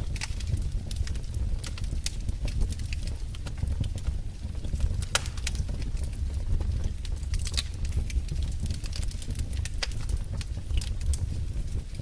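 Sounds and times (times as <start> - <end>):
fire crackling and popping: 0.0 - 12.0
flames rumbling: 0.0 - 12.0.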